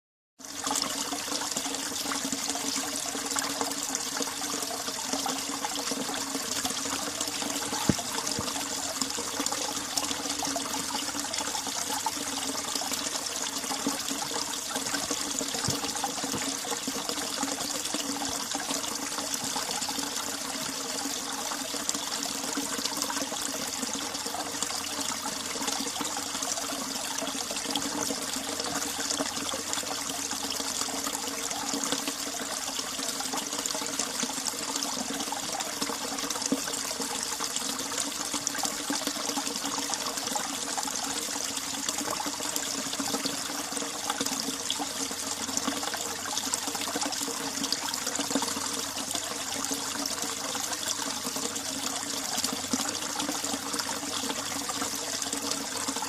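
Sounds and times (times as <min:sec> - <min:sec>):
mountain stream trickling: 0:00.4 - 0:56.0.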